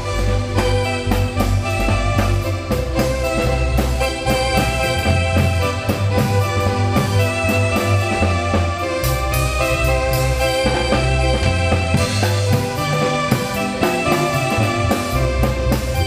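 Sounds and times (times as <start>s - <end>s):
marimba band playing dance tune: 0.0s - 16.0s.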